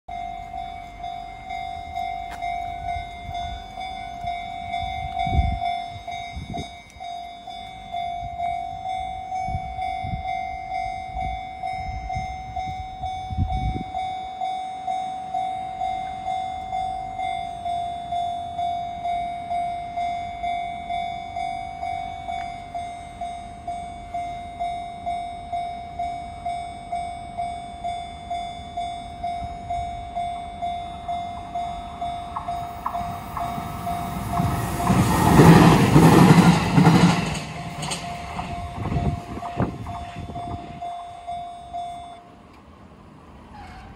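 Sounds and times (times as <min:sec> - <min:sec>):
level crossing bell dinging: 0:00.1 - 0:35.0, 0:36.5 - 0:42.3
train passing: 0:00.1 - 0:43.9.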